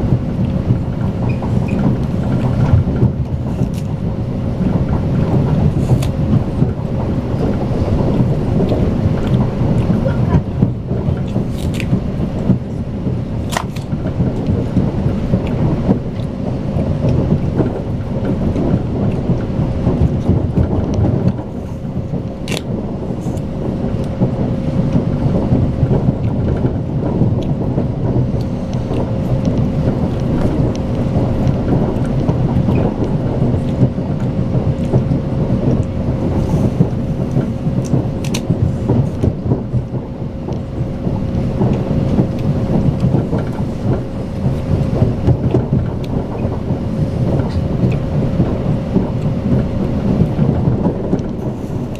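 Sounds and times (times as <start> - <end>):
train running rumble: 0.0 - 51.9.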